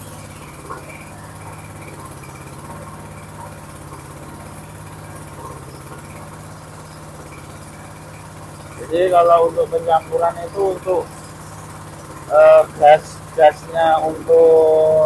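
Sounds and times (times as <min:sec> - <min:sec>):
small petrol engine idling: 0:00.0 - 0:15.0.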